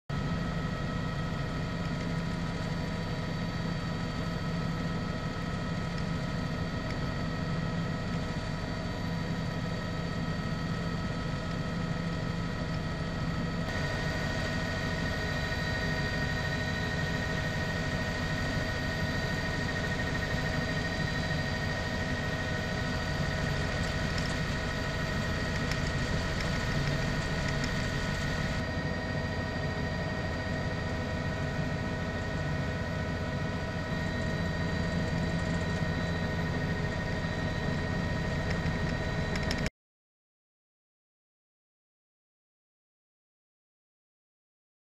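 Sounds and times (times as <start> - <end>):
helicopter engine and rotor drone: 0.1 - 39.7.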